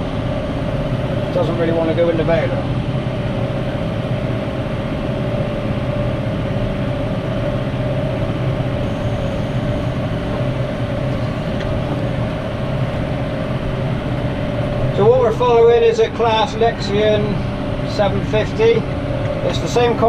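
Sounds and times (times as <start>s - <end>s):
tractor and baler drone: 0.0s - 20.0s.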